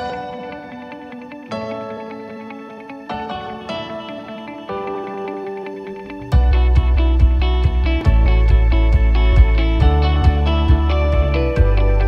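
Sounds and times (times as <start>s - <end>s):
background music chord: 0.0s - 12.0s.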